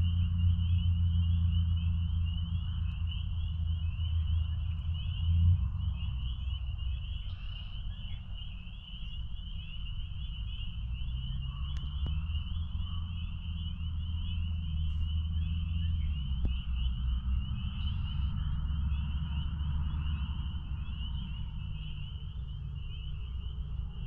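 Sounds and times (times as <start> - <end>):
spring peepers calling: 0.0 - 24.0
steady low rumble: 0.0 - 24.0.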